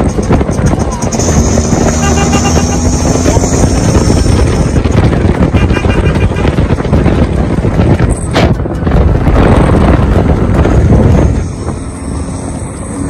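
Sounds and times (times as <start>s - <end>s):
road and tyre noise: 0.0s - 13.0s
wind buffeting microphone: 0.0s - 13.0s.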